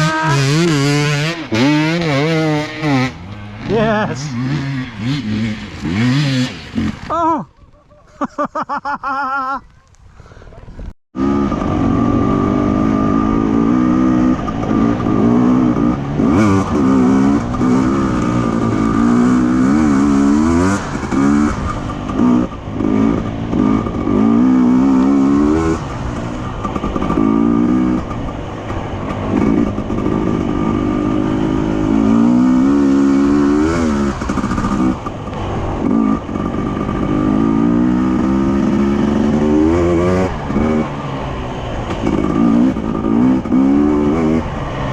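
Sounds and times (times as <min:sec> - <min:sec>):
motorcycle engine revving: 0:00.0 - 0:07.4, 0:11.2 - 0:44.9.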